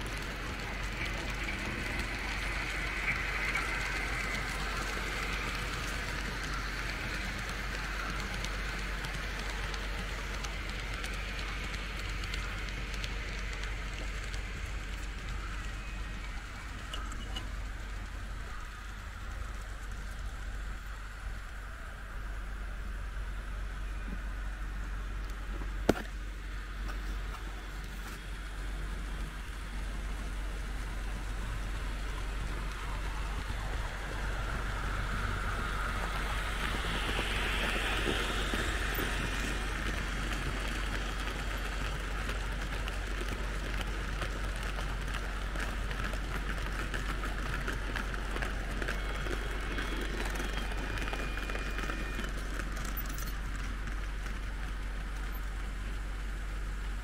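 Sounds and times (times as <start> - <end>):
model train wheels rattling on track: 0.0 - 22.4, 24.3 - 57.0.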